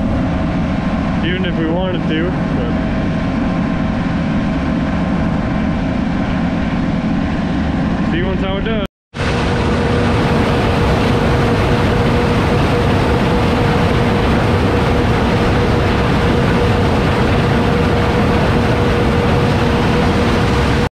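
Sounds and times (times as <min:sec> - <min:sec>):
combine harvester droning: 0:00.0 - 0:20.9.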